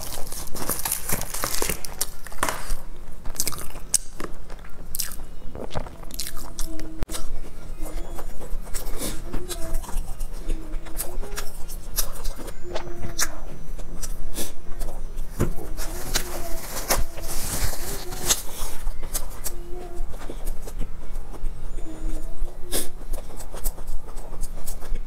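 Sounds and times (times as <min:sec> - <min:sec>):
crunchy bread chewing: 0:00.0 - 0:25.0
squeaky mouth sounds: 0:04.8 - 0:25.0.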